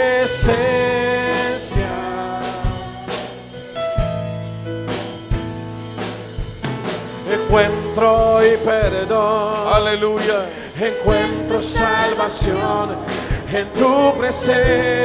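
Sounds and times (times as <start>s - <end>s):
worship band with drum kit: 0.0s - 15.0s.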